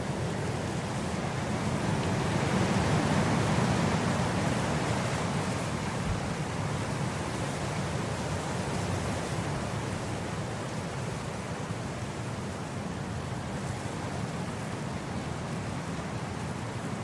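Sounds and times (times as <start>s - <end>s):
wind blowing across grass: 0.0s - 17.0s.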